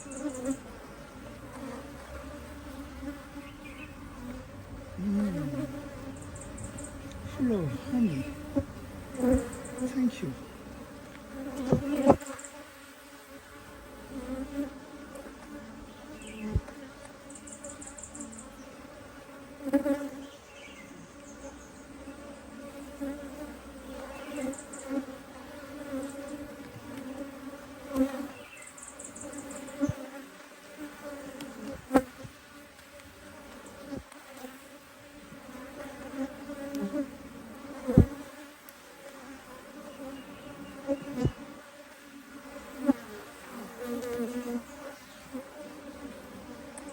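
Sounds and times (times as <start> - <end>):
honey bees buzzing: 0.0 - 46.9.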